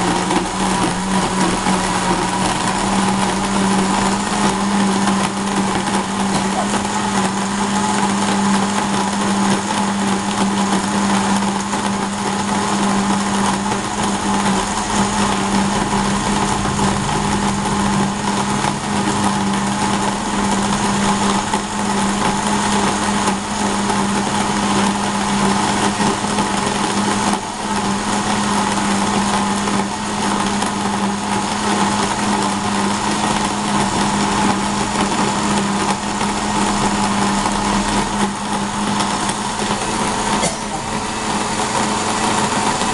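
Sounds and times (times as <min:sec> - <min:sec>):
kitchen blender running: 0:00.0 - 0:42.9.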